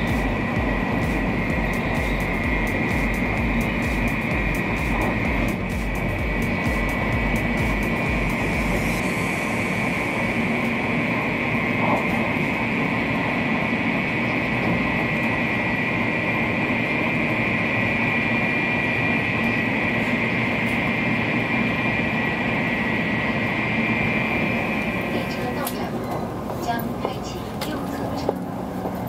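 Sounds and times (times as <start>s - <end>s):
steady high whine: 0.0s - 29.0s
train cabin rumble and rush: 0.0s - 29.0s.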